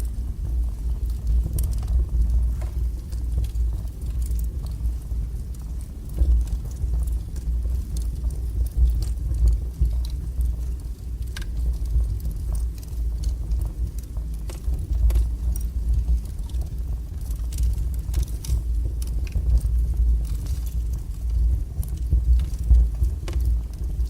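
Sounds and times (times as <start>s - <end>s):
fire crackling and popping: 0.0s - 24.0s
fire roaring: 0.0s - 24.0s.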